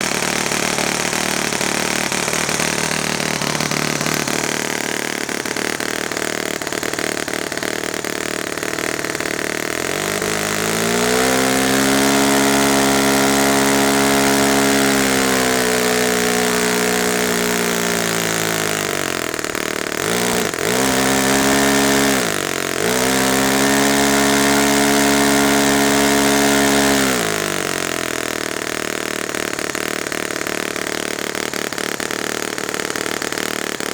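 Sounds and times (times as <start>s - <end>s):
model engine revving and idling: 0.0s - 33.9s.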